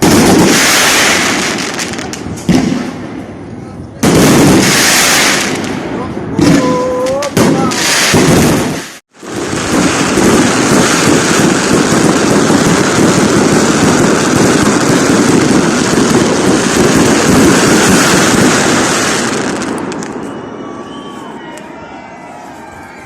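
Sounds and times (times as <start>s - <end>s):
fireworks crackling and rumbling: 0.0s - 23.0s.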